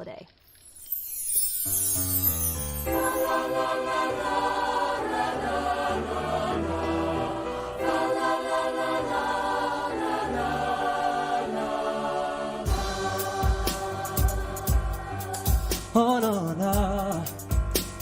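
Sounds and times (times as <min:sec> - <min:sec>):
choir singing held chords: 0:02.8 - 0:18.0.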